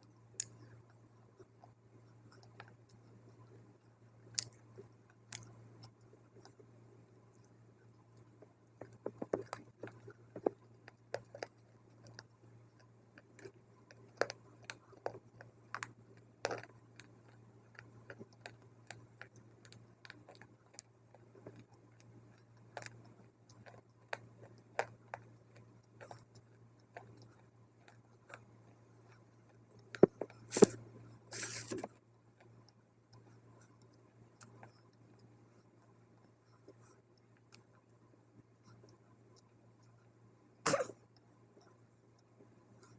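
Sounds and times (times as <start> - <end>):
steady low hum: 0.0 - 42.9
crunching and chewing clay: 0.1 - 6.7, 7.3 - 39.6.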